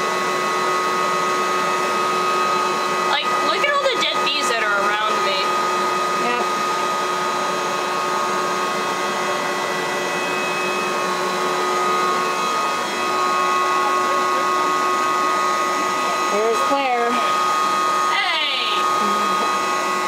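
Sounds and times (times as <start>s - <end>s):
vacuum motor whine: 0.0s - 20.0s.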